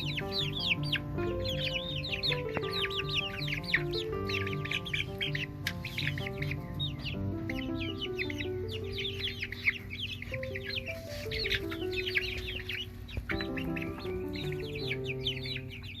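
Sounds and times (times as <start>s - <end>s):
background music: 0.0s - 16.0s
chicks peeping: 0.0s - 16.0s.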